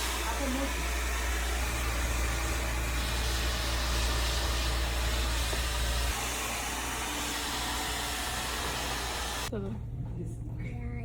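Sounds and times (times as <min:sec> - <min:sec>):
hair dryer rushing air: 0:00.0 - 0:09.5.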